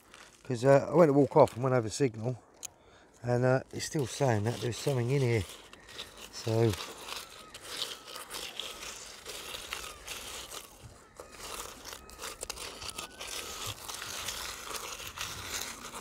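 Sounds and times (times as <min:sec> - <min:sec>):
probe raking through gravelly sand: 0:00.0 - 0:02.4, 0:03.2 - 0:16.0.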